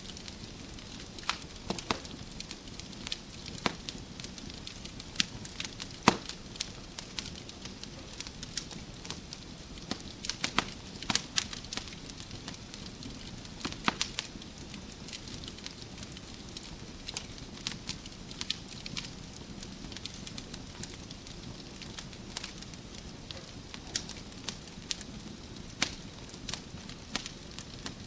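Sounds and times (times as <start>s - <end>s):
fire crackling and popping: 0.0s - 28.0s
fire flames rushing: 0.0s - 28.0s.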